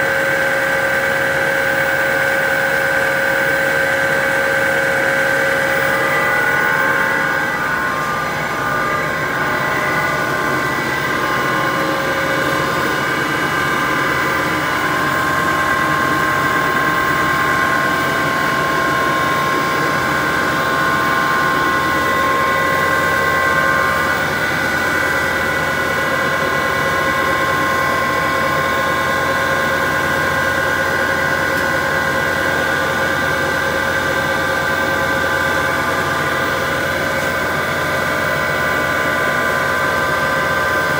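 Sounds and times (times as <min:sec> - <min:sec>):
machine hum: 0:00.0 - 0:40.9
steady high machine tones: 0:00.0 - 0:40.9.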